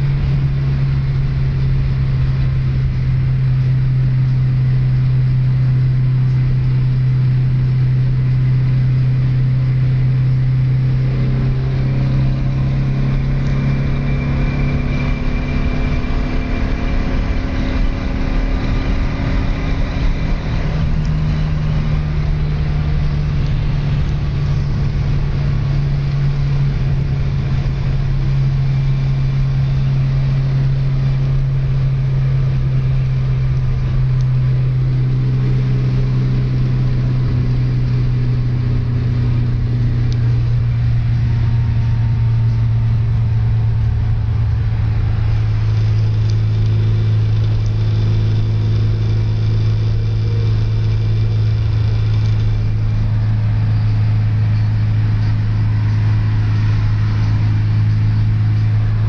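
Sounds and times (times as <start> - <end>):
car engine droning: 0.0 - 59.0.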